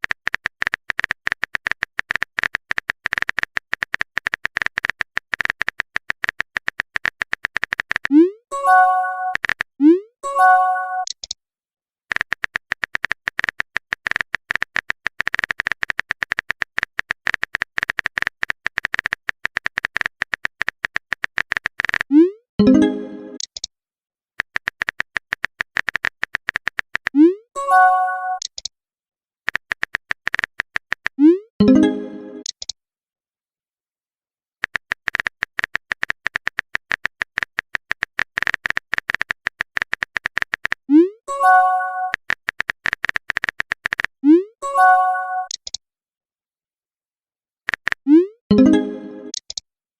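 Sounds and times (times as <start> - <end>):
keyboard typing clicks: 0.0 - 11.4, 12.1 - 23.7, 24.4 - 28.7, 29.5 - 32.8, 34.6 - 45.8, 47.7 - 49.6.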